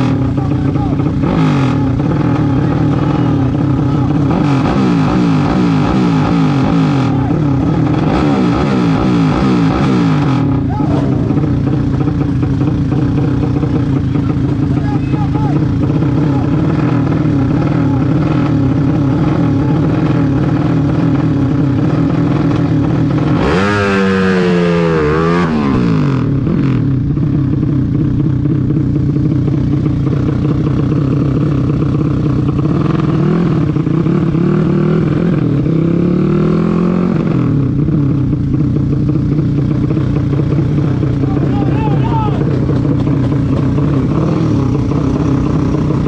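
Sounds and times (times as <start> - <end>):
vehicle engine revving: 0.0 - 46.0.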